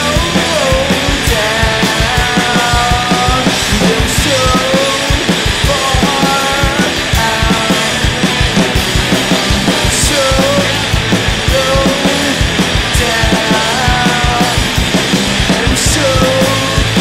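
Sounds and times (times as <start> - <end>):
driving drum hits: 0.0 - 17.0
electric guitar: 0.0 - 17.0
man singing: 0.0 - 17.0.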